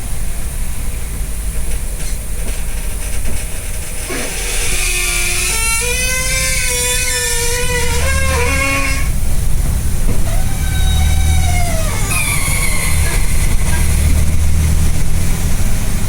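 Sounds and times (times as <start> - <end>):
bus running noise: 0.0 - 16.0
bus joint creaking and squealing: 1.6 - 15.4.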